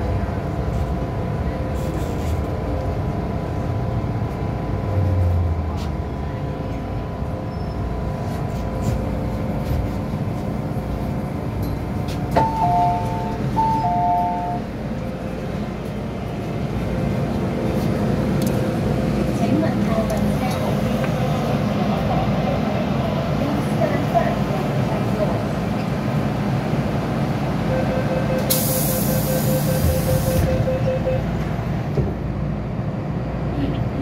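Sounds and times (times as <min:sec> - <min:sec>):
train running noise: 0:00.0 - 0:34.0.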